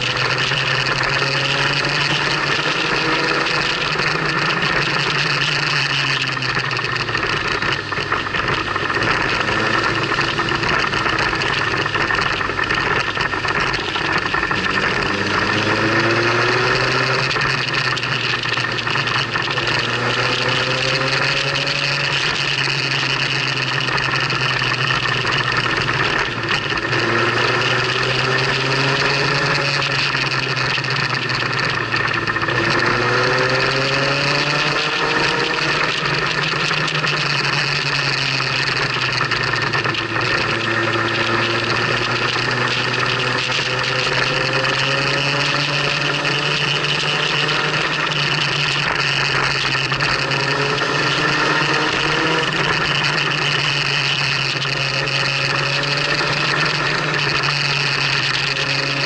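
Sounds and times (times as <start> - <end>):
motorcycle engine accelerating: 0.0 - 59.0
wind and road noise: 0.0 - 59.0.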